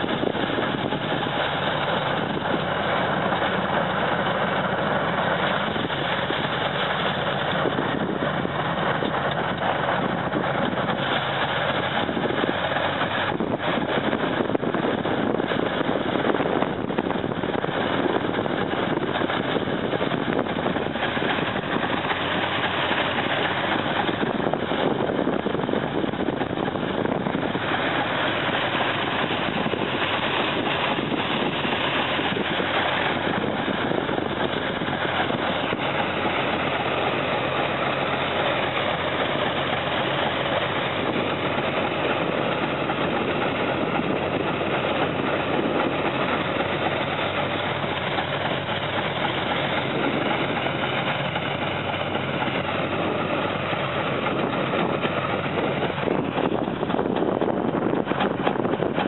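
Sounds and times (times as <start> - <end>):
low engine drone: 0.0 - 59.0
snow blower running: 0.0 - 59.0.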